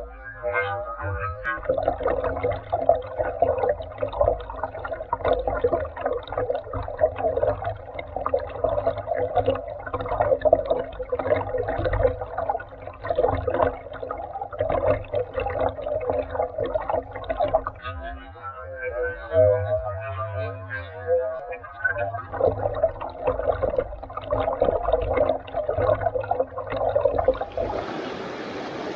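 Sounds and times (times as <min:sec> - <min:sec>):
muffled stream water rushing: 0:01.5 - 0:17.9, 0:21.6 - 0:28.9.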